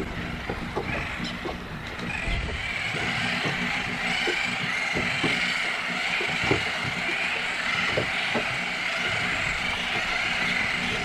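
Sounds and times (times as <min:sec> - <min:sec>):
motor running: 0:00.0 - 0:11.0.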